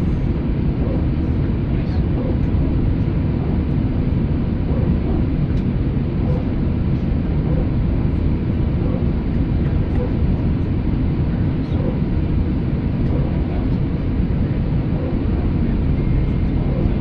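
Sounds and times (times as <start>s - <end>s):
low rumble in aircraft cabin: 0.0s - 17.0s.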